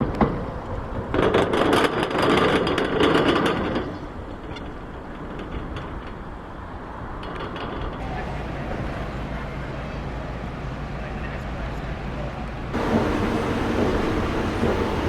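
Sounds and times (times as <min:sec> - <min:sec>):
train clattering rattle: 0:00.0 - 0:15.0
train low rumble: 0:00.0 - 0:15.0.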